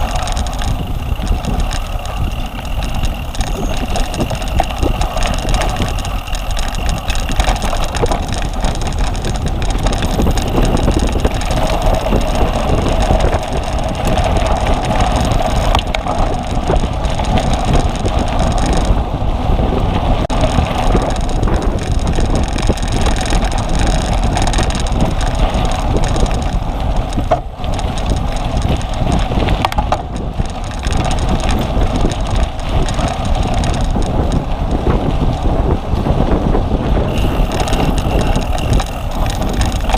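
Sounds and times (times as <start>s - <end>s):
bike rattling over rough ground: 0.0s - 39.9s
wind rushing over microphone: 0.0s - 39.9s.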